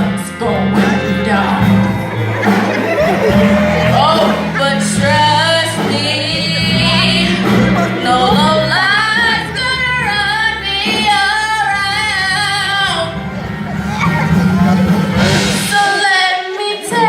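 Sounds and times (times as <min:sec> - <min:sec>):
low musical accompaniment: 0:00.0 - 0:15.8.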